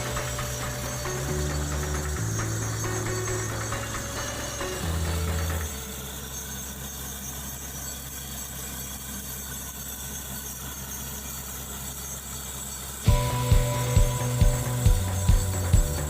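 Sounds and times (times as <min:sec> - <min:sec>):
engine idling low hum: 0:00.0 - 0:09.3, 0:10.7 - 0:16.0.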